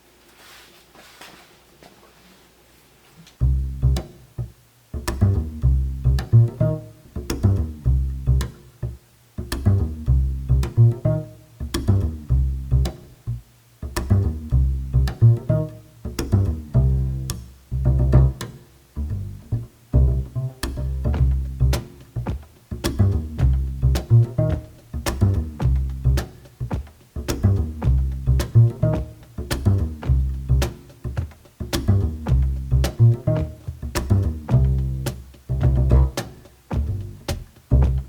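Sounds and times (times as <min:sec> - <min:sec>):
instrumental music with bass beats: 0:03.4 - 0:38.0.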